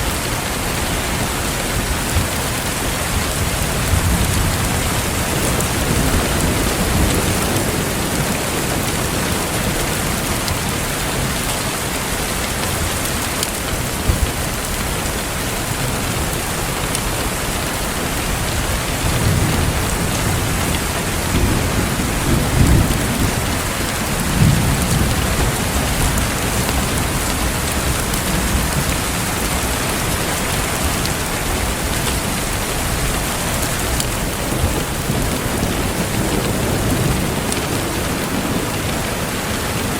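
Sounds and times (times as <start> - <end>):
heavy rain: 0.0 - 39.9
rolling thunder: 1.2 - 11.6, 18.1 - 39.9.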